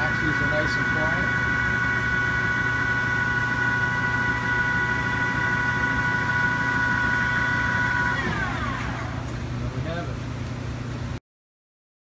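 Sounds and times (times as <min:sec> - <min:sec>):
lathe spindle whine: 0:00.0 - 0:10.3.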